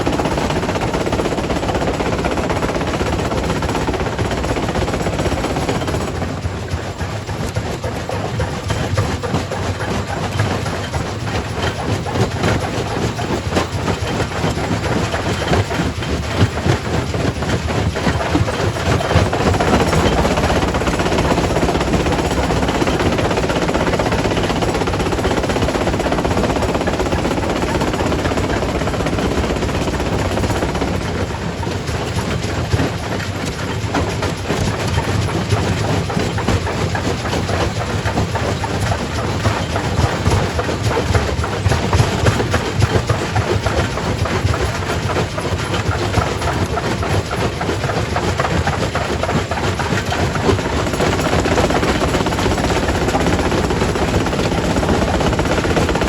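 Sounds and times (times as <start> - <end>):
rock crusher heavy rumble: 0.0 - 56.0.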